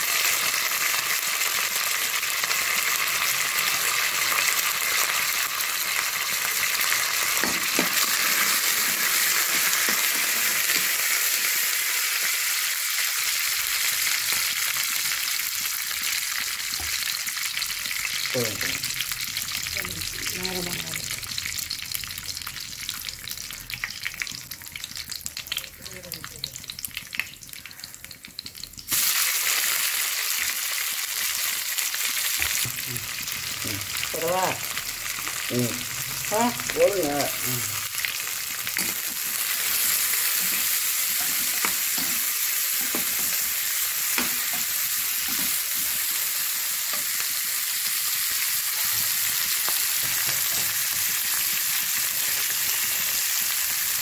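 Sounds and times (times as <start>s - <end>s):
onions sizzling in oil: 0.0s - 54.0s
seeds crackling in hot oil: 0.0s - 54.0s.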